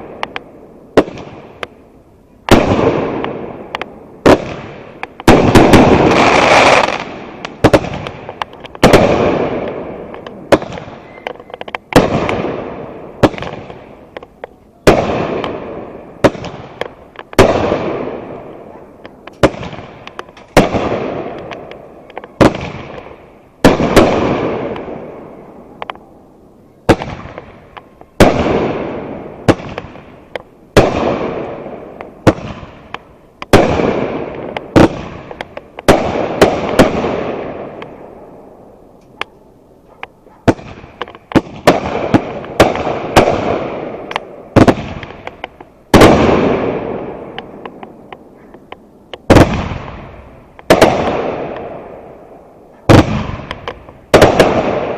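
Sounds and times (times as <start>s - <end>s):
small firework pops: 0.0s - 1.8s, 2.5s - 18.2s, 19.0s - 25.0s, 25.8s - 26.1s, 26.8s - 38.1s, 40.0s - 54.9s
fireworks bangs: 0.0s - 54.9s.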